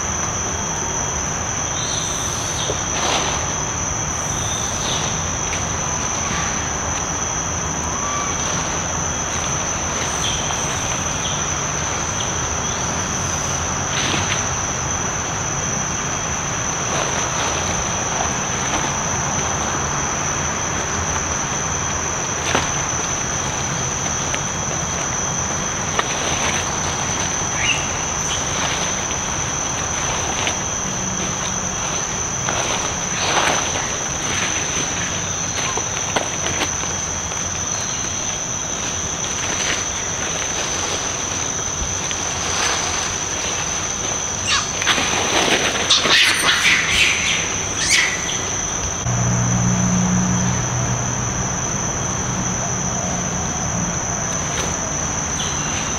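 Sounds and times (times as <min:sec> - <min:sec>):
forest background noise: 0:00.0 - 0:55.9
insects droning: 0:00.0 - 0:55.9.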